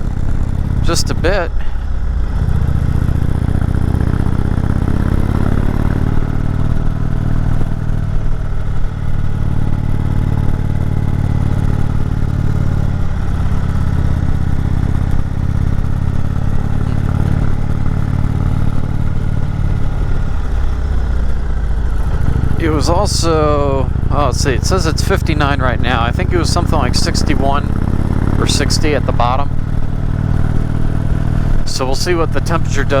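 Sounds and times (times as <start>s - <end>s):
motorcycle engine climbing uphill: 0.0s - 33.0s.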